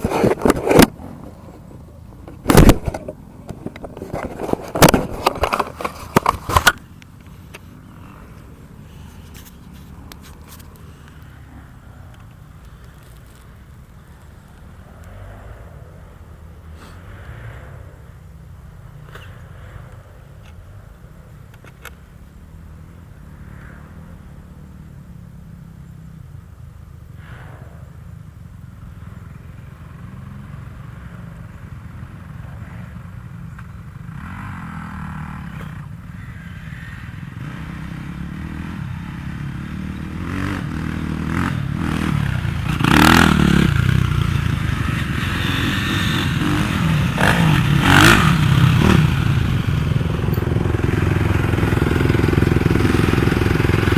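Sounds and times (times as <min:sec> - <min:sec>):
motorcycle engines running: 0:00.0 - 0:53.9.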